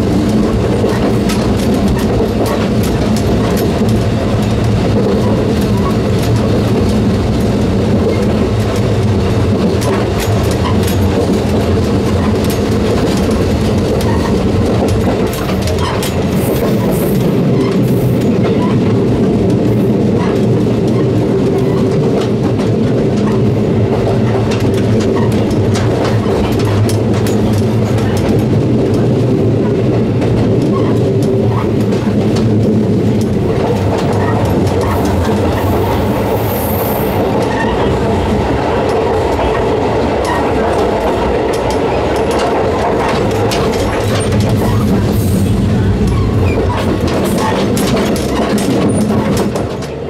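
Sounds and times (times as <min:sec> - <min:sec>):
gangway plates clicking and knocking: 0:00.0 - 0:50.0
railcar engine drone: 0:00.0 - 0:50.0
wheels clicking over rail joints: 0:00.0 - 0:50.0.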